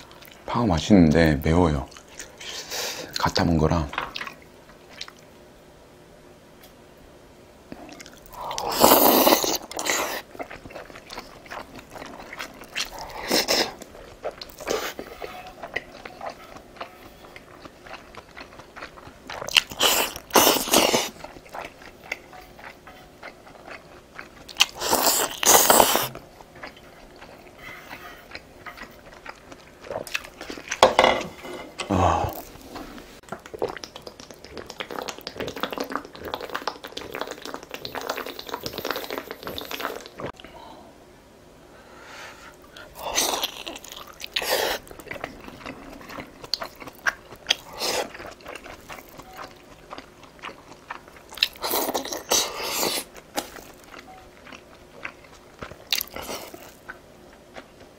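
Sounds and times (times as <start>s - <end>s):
close chewing and biting: 7.8s - 30.8s, 31.8s - 40.4s, 42.7s - 57.9s.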